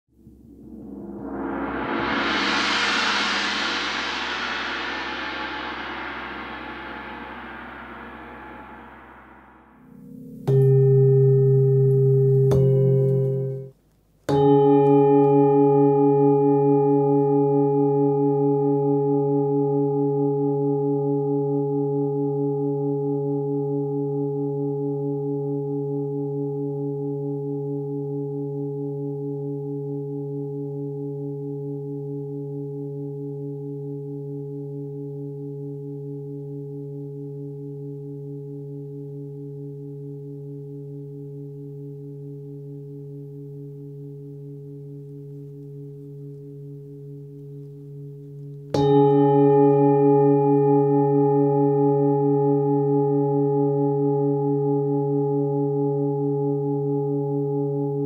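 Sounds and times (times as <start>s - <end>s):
singing bowl ringing: 0.4s - 13.7s, 14.3s - 58.0s.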